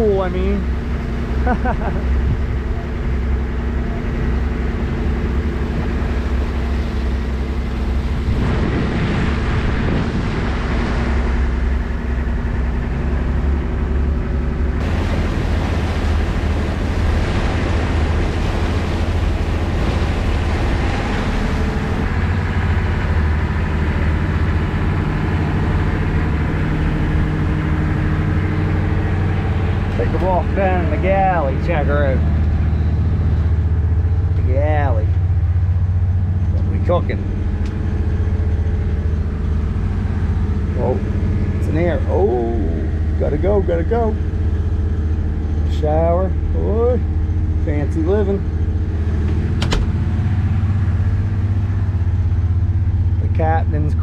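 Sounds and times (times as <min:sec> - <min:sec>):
boat engine droning: 0:00.0 - 0:54.0
rushing water and wind: 0:00.0 - 0:54.0.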